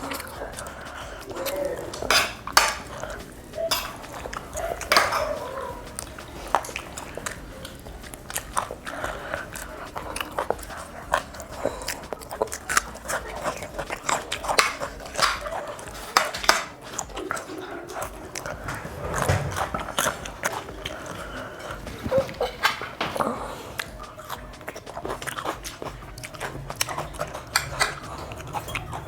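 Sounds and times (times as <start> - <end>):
close-miked chewing and lip-smacking: 0.0 - 29.0.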